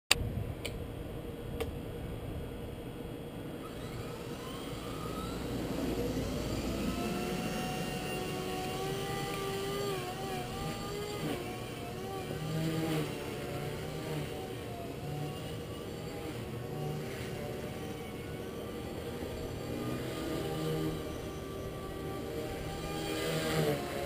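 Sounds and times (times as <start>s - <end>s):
helicopter motor and rotor whine: 2.5s - 24.0s.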